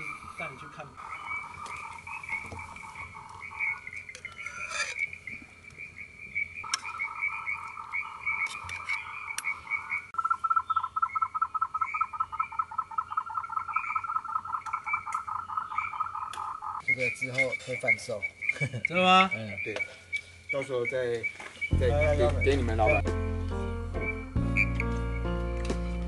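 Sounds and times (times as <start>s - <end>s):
frogs trilling in chorus: 0.0s - 23.0s.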